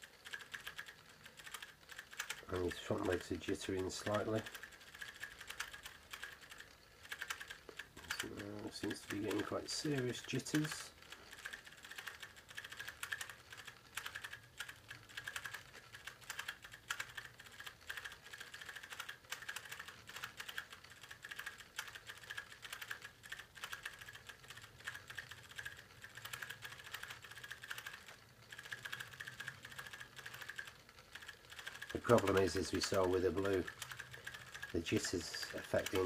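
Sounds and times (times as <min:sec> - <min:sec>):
robot motors clicking chatter: 0:00.0 - 0:36.0.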